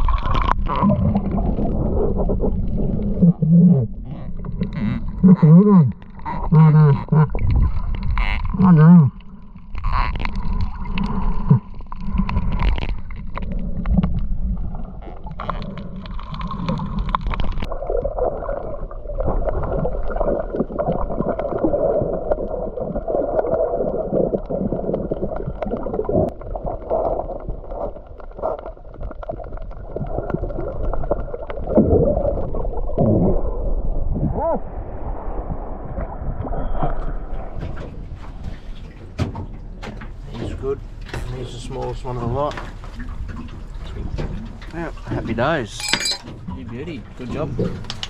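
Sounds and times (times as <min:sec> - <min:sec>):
underwater gurgling and bubbling: 0:00.0 - 0:38.9
water splashing: 0:00.0 - 0:48.0
wind: 0:00.0 - 0:48.0.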